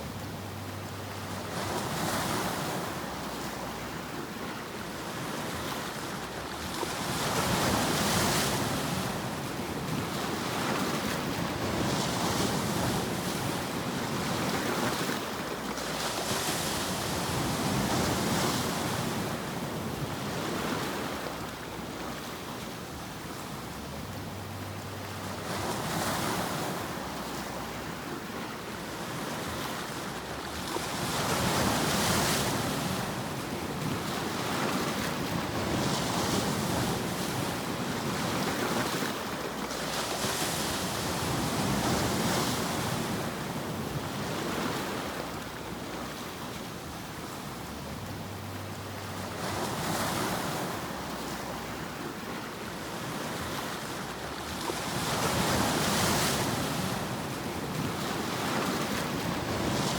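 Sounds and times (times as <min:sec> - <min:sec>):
continuous rushing white noise: 0:00.0 - 0:55.0.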